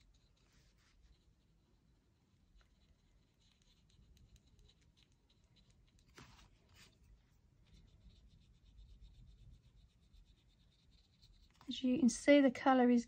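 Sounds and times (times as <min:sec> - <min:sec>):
pen scraping: 0:00.0 - 0:01.6, 0:02.4 - 0:11.7
brush pen strokes on card: 0:00.0 - 0:11.8.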